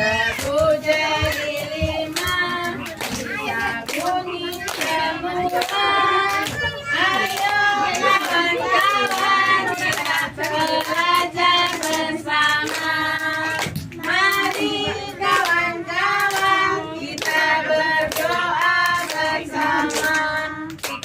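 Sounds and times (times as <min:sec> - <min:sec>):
children clapping: 0:00.0 - 0:21.0
children singing: 0:00.0 - 0:21.0.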